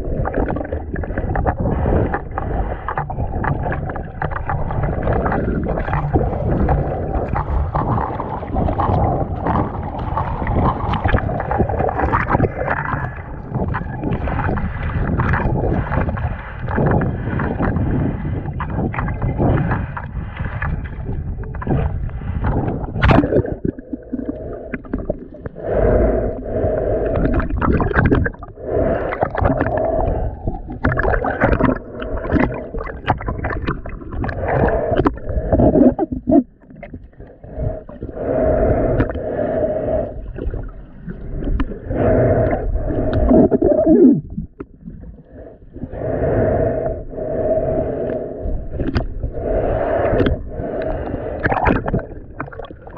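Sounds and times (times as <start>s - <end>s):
muffled underwater sloshing: 0.0s - 52.9s.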